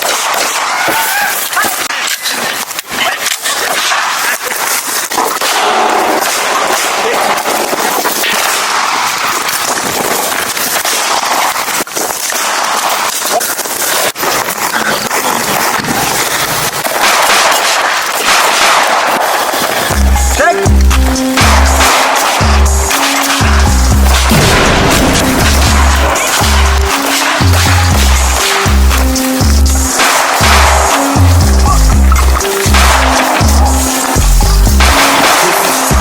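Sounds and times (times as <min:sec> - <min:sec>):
rapid gunshots: 0:00.0 - 0:36.0.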